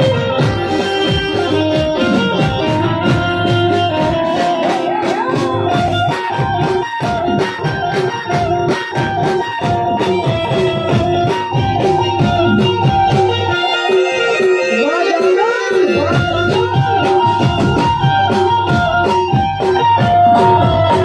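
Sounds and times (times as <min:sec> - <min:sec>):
banjo melody: 0:00.0 - 0:21.0
folk band drums: 0:00.0 - 0:21.0.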